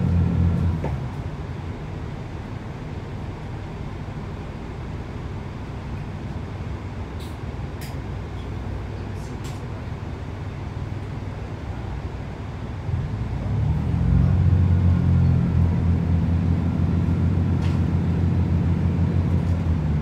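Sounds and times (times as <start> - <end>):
train interior low rumble: 0.0 - 20.0.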